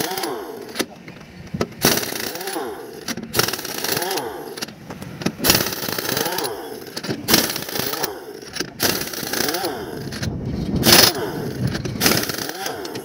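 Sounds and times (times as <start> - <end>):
pneumatic impact wrench hammering: 0.0 - 13.0.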